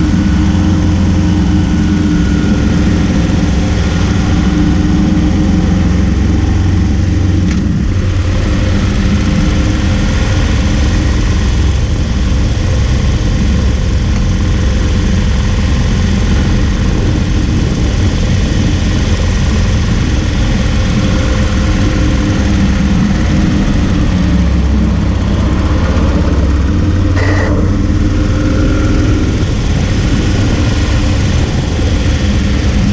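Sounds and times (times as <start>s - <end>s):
motorcycle engine running: 0.0s - 32.9s
wind noise: 0.0s - 32.9s.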